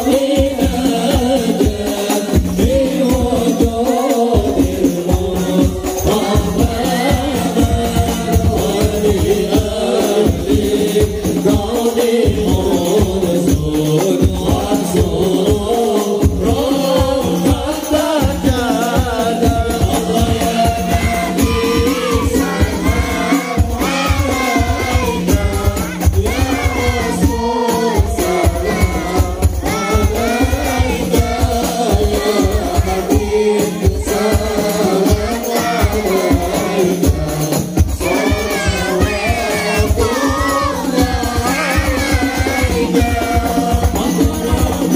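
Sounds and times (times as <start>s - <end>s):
congregation singing a chant: 0.0s - 44.9s
hand drums with jingles: 0.0s - 44.9s.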